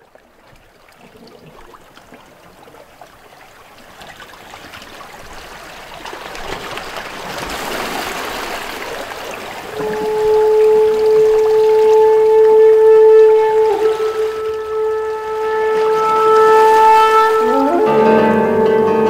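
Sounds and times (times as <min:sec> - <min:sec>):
seawater trickling and lapping: 0:00.0 - 0:18.1.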